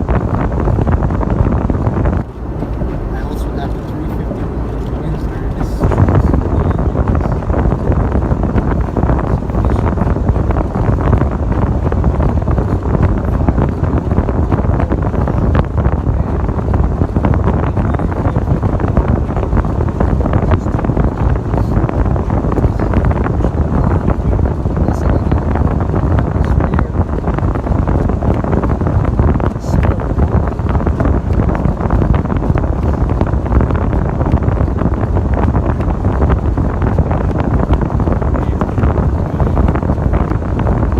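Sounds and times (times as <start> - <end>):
vehicle driving rumble: 0.0 - 40.9.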